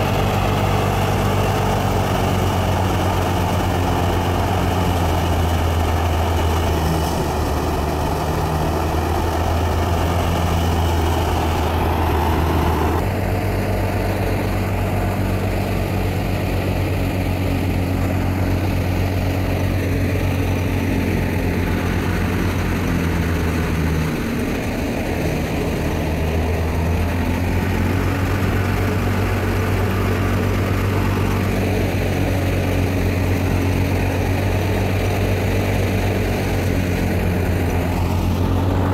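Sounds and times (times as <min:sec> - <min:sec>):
thresher machinery noise: 0:00.0 - 0:38.9
tractor engine running: 0:00.0 - 0:38.9.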